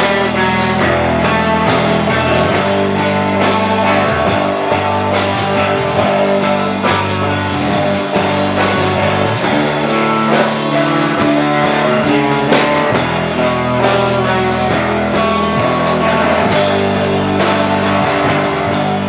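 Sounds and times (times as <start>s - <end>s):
rock band playing instrumental: 0.0s - 19.0s.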